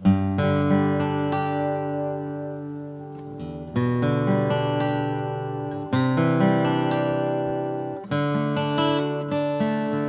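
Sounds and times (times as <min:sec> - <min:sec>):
acoustic guitar chord ringing: 0:00.0 - 0:10.0
guitar note picked: 0:00.0 - 0:10.0.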